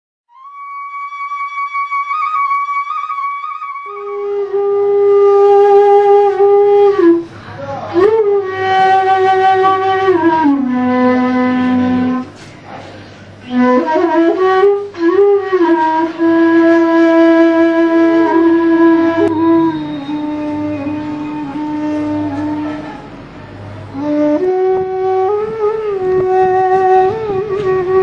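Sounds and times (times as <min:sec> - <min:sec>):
slow wind instrument melody: 0:00.3 - 0:12.4, 0:13.3 - 0:28.0.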